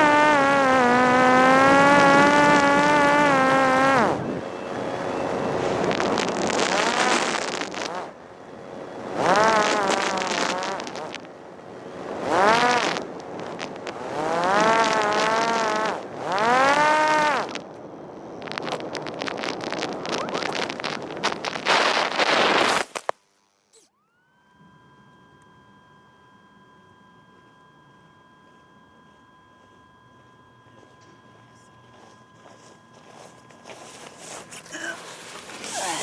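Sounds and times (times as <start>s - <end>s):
drone motor whining: 0.0s - 36.0s.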